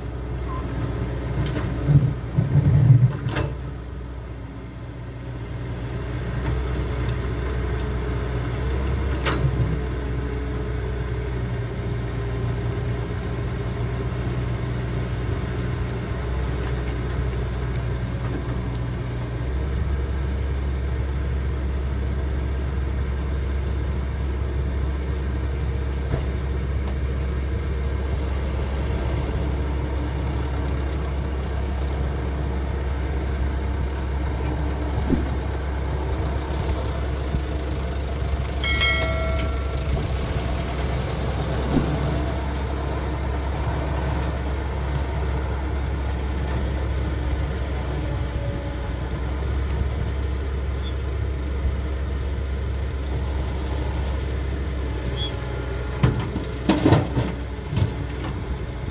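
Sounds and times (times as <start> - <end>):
diesel engines running: 0.0 - 58.9.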